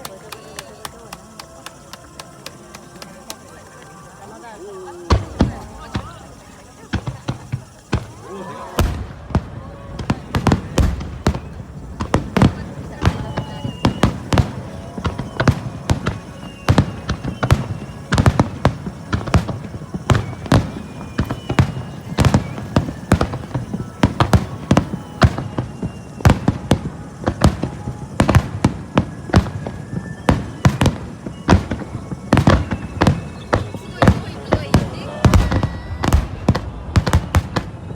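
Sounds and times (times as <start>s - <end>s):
high whistling fireworks: 0.0s - 37.9s.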